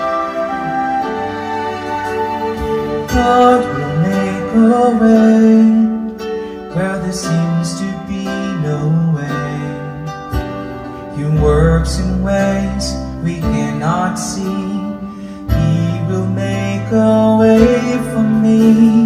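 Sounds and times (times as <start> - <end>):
backing track with guitar: 0.0 - 19.0.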